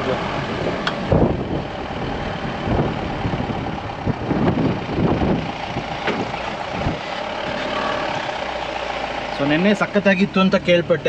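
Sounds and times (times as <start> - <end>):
car engine running: 0.0 - 11.0
low rumbles: 0.0 - 11.0
road and wind noise: 0.0 - 11.0.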